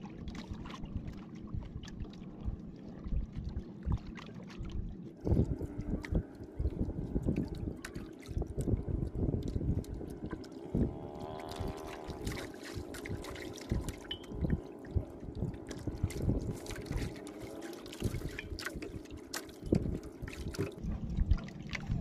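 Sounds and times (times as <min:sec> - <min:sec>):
water slapping against boat hull: 0:03.3 - 0:22.0.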